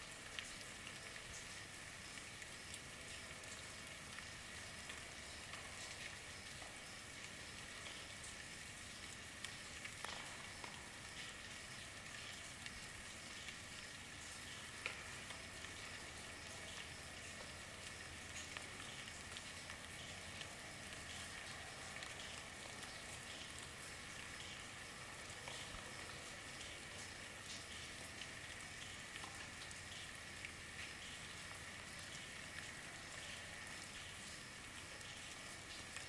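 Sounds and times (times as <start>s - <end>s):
rain hissing: 0.0s - 36.0s
water drips: 0.0s - 36.0s.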